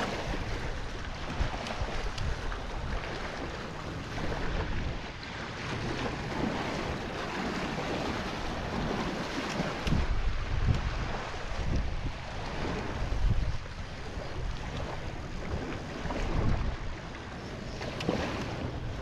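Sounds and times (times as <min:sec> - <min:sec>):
waves splashing against rocks: 0:00.0 - 0:19.0
wind buffeting microphone: 0:00.0 - 0:19.0.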